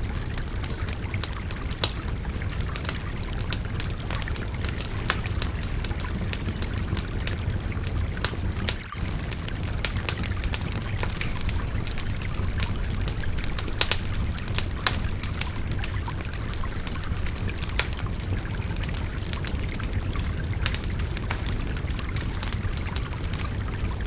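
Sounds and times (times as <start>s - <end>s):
babbling river: 0.0s - 24.0s
wood fire crackling and popping: 0.0s - 24.0s.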